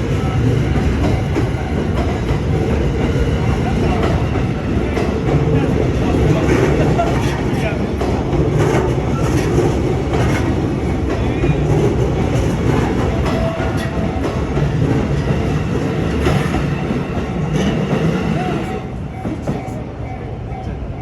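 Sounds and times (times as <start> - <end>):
train rumbling past: 0.0 - 21.0
wheels clacking over rail joints: 0.4 - 18.6.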